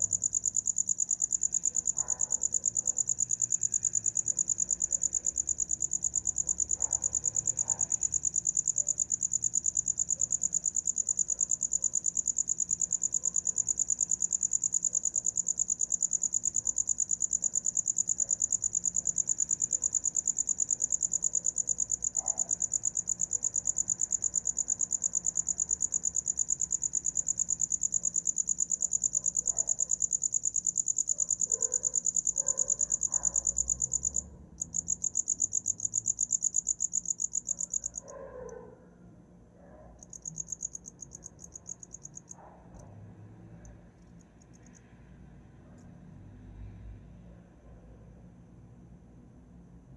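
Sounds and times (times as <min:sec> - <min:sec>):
cricket chirping: 0:00.0 - 0:38.8, 0:39.8 - 0:45.1.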